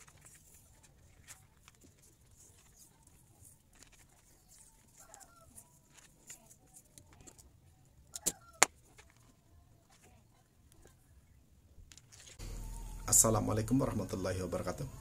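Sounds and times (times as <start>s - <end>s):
faint rustling of tape: 0.0s - 12.9s.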